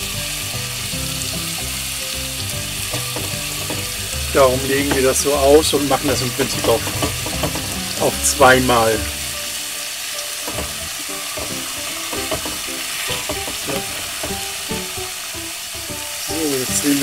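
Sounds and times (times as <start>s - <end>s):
crackles and spits: 0.0s - 17.0s
meat sizzling in hot fat: 0.0s - 17.0s.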